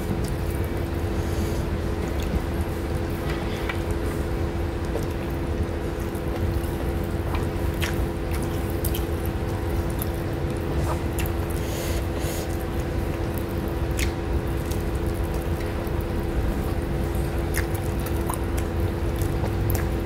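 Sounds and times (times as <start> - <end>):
steady low hum: 0.0 - 20.0
wet squishing and chewing: 0.0 - 20.0.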